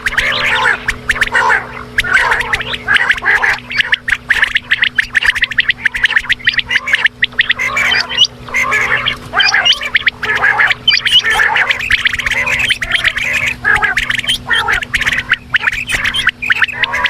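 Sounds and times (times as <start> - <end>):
quail clicking and chirping calls: 0.0 - 17.0
steady low hum: 0.0 - 17.0.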